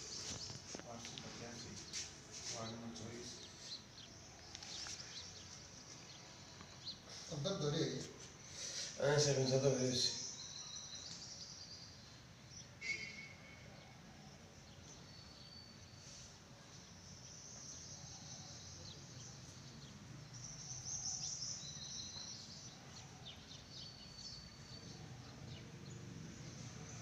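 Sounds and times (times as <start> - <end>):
faint high-pitched chirping: 0.0 - 27.0.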